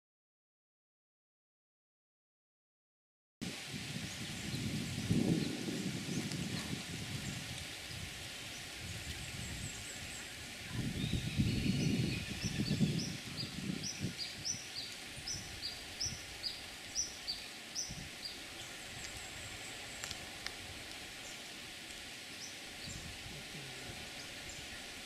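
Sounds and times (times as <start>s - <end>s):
steady high hiss: 3.4s - 25.0s.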